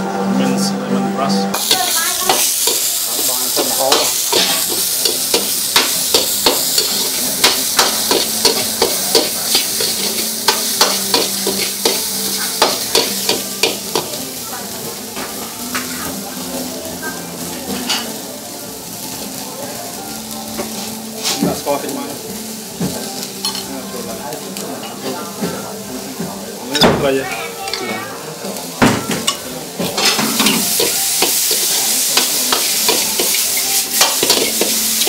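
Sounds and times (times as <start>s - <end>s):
food sizzling in oil: 1.5s - 35.0s.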